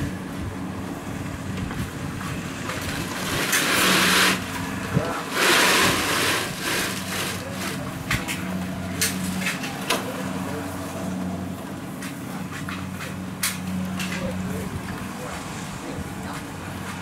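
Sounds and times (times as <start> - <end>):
diesel engine humming: 0.0 - 17.0.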